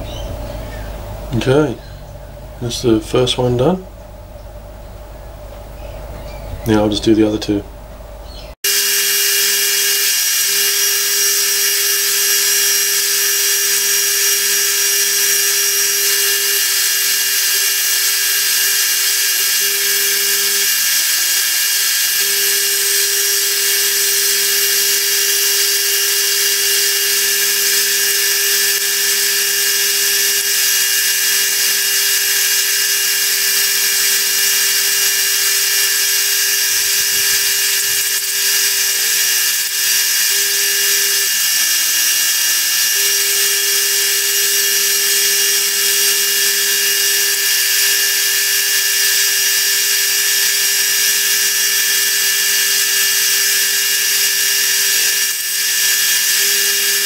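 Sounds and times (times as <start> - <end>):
milling machine cutting metal: 8.6 - 57.0.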